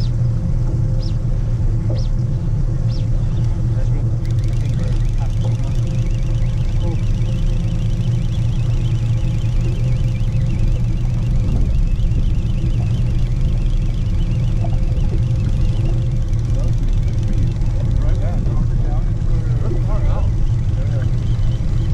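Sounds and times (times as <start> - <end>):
outboard motor humming: 0.0 - 21.9.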